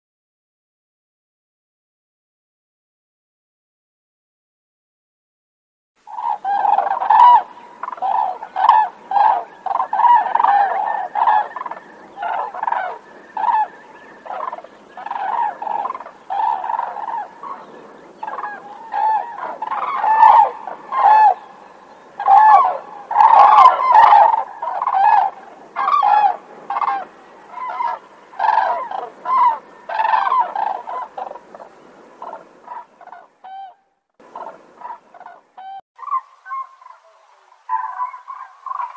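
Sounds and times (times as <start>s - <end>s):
cranes calling: 6.1s - 38.9s.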